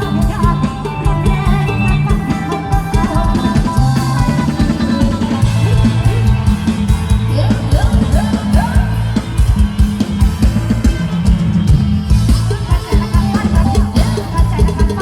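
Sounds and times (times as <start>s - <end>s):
drum kit and bass beat: 0.0s - 15.0s
live band dance music: 0.0s - 15.0s.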